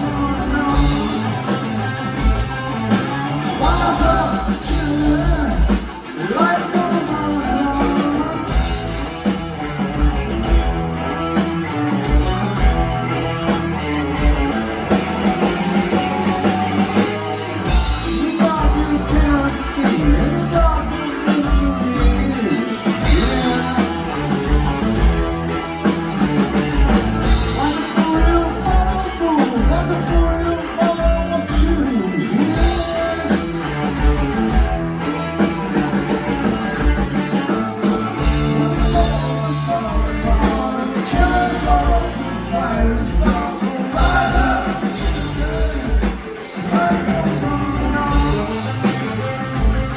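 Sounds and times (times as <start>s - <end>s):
bass guitar: 0.0s - 49.9s
drums steady beat: 0.0s - 49.9s.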